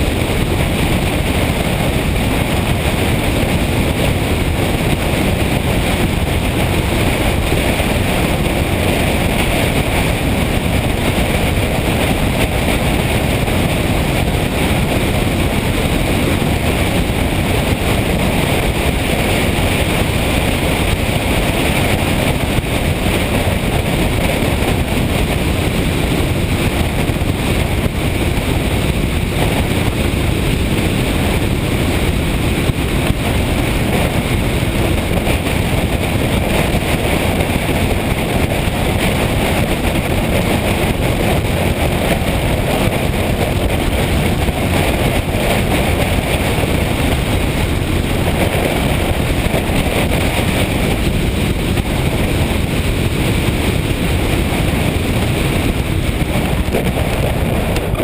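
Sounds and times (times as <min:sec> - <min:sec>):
motorcycle engine: 0:00.0 - 0:58.0
wind on the microphone: 0:00.0 - 0:58.0.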